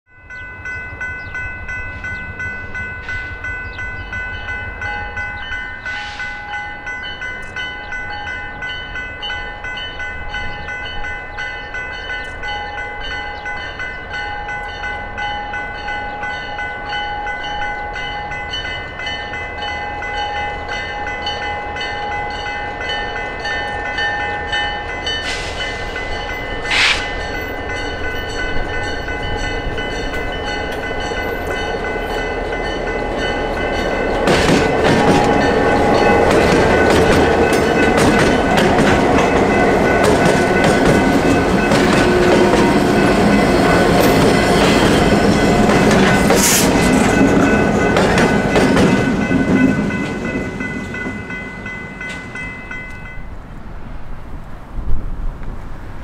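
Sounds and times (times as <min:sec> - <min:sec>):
high ringing tones: 0:00.1 - 0:53.4
train engine rumble: 0:00.2 - 0:56.0.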